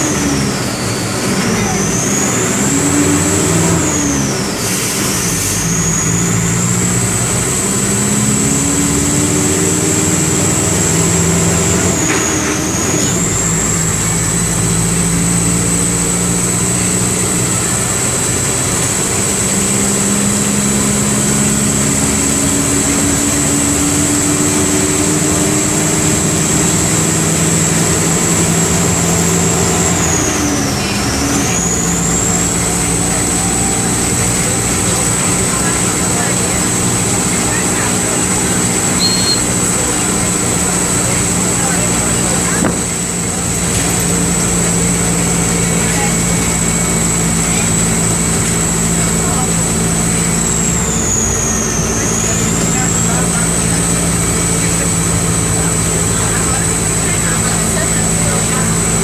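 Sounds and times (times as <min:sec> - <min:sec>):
diesel bus engine accelerating: 0:00.0 - 0:59.0.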